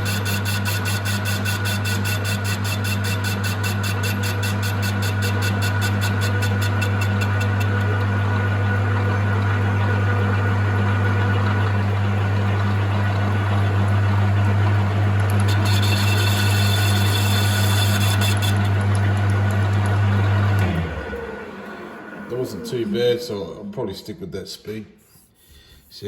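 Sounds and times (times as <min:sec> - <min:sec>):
lathe motor hum: 0:00.0 - 0:23.5.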